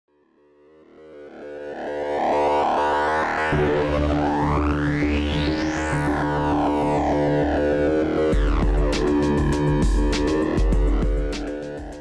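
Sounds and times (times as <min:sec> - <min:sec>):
synthesizer music: 0:00.9 - 0:12.0.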